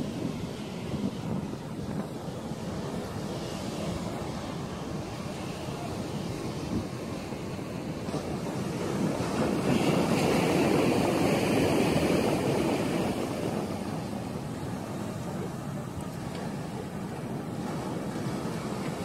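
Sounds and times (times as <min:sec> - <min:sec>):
surf washing up pebbly beach: 0:00.0 - 0:19.0.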